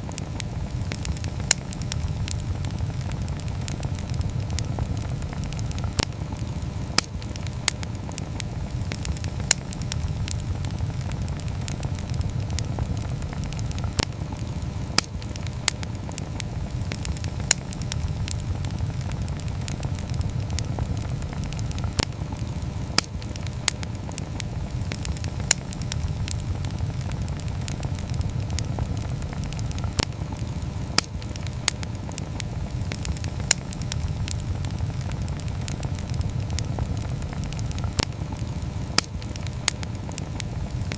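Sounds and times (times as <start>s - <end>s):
campfire flames rumbling: 0.0s - 40.9s
fire crackling and popping: 0.0s - 40.9s.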